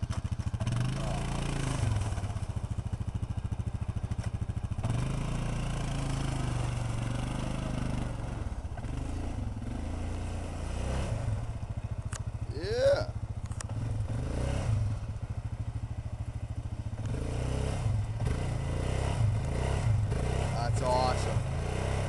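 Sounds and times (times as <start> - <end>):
quad bike engine revving: 0.0 - 22.0.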